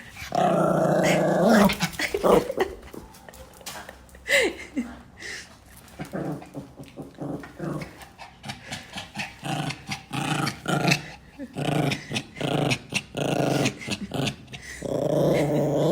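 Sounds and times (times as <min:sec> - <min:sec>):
small dog growling: 0:00.0 - 0:03.3, 0:05.8 - 0:15.9.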